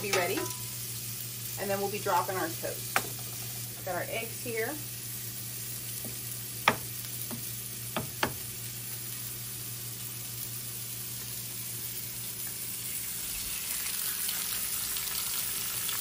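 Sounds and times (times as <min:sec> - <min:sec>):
oil sizzling in a skillet: 0:00.0 - 0:16.0.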